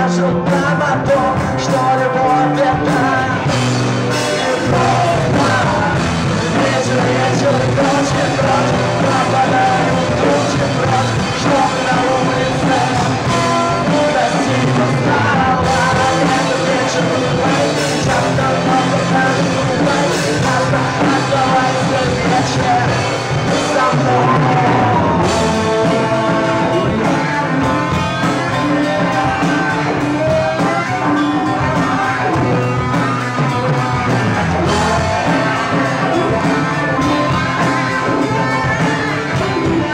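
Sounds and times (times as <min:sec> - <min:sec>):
person singing: 0:00.0 - 0:39.9
rock band playing ballad: 0:00.0 - 0:39.9.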